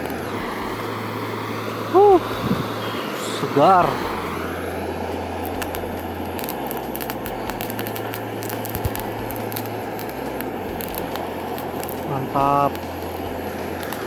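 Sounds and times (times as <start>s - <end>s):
low hum: 0.0s - 14.0s
seafood sizzling and popping: 0.0s - 14.0s.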